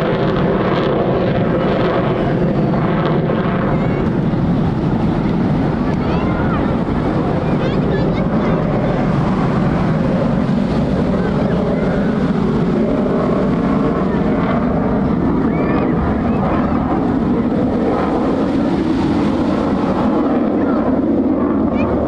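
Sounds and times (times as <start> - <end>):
faint voices: 0.0 - 22.0
jet engine roar overhead: 0.0 - 22.0.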